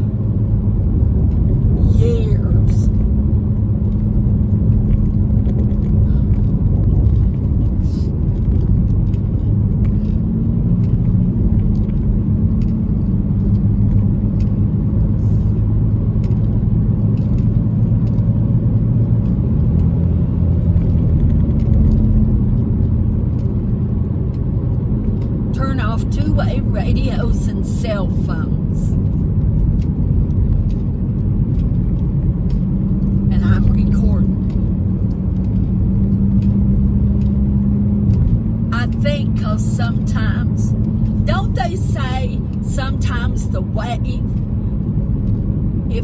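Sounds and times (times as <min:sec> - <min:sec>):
car engine drone: 0:00.0 - 0:46.0
road rumble: 0:00.0 - 0:46.0.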